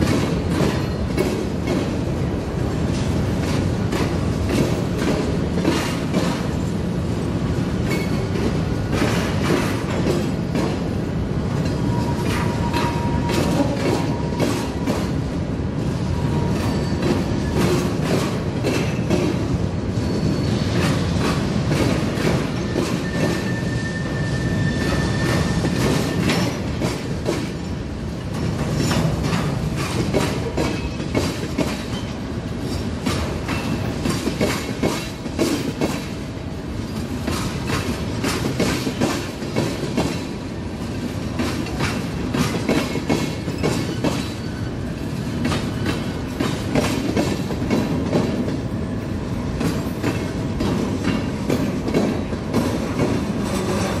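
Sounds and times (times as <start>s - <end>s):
wheels clacking over rail joints: 0.0s - 19.6s, 20.6s - 23.6s, 25.2s - 48.8s, 49.5s - 54.0s
freight train cars rumbling past: 0.0s - 54.0s.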